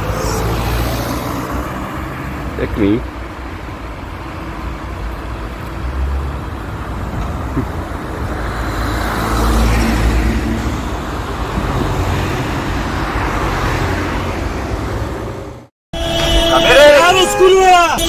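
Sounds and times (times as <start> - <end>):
tyre and road noise: 0.0 - 18.0.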